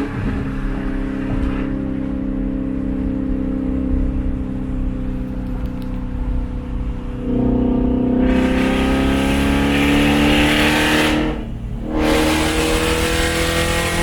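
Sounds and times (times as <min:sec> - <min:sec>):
loud car exhaust accelerating: 0:00.0 - 0:14.0.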